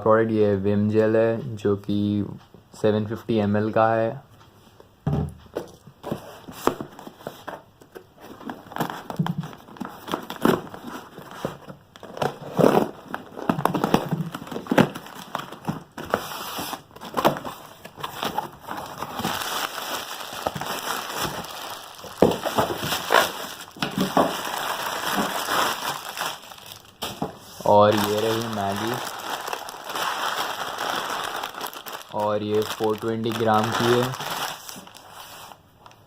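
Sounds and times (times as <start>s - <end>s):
packaging crinkling and rustling: 5.7s - 36.0s.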